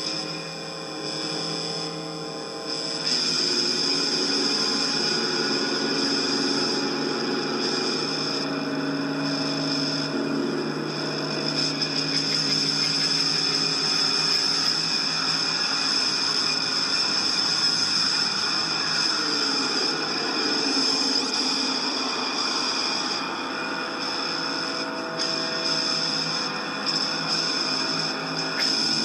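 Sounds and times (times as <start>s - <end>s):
hiss: 0.0s - 2.0s, 2.7s - 29.0s
dense drone of held tones: 0.0s - 29.0s.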